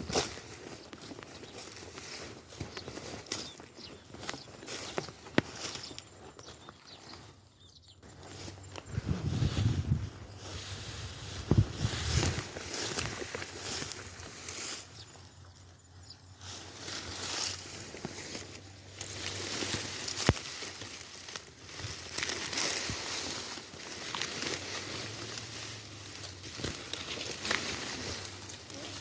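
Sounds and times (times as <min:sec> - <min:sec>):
footsteps through grass: 0:00.0 - 0:29.0.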